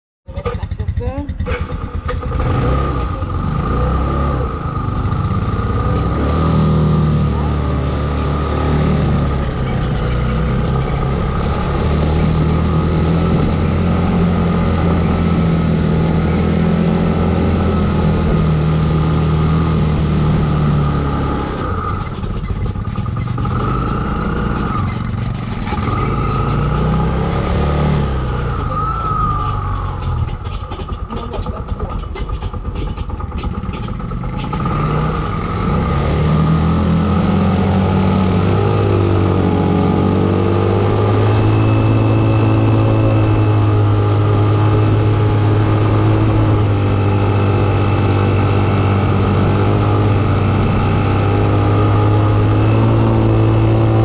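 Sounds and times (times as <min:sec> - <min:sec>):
motorcycle engine climbing: 0:00.3 - 0:54.0.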